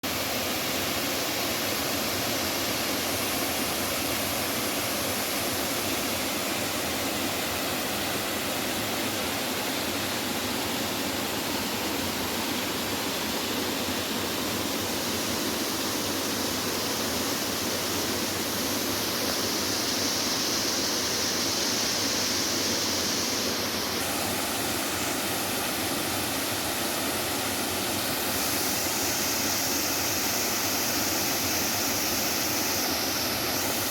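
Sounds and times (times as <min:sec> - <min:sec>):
waterfall rushing water: 0:00.0 - 0:33.9.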